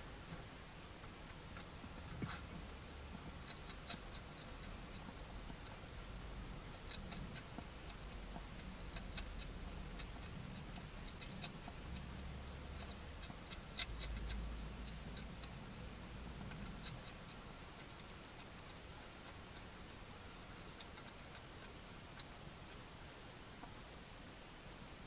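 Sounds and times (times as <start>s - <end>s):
hedgehog chewing dry food: 0.2s - 24.2s.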